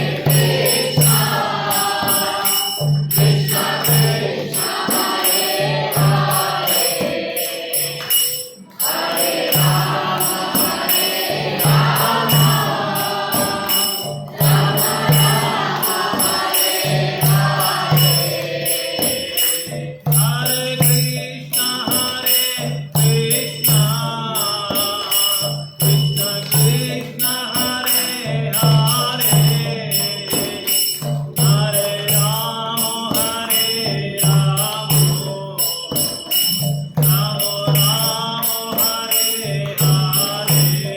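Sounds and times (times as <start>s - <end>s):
group chanting call-and-response: 0.0s - 40.9s
jingling hand cymbals: 0.0s - 40.9s
person leading the singing: 0.0s - 40.9s.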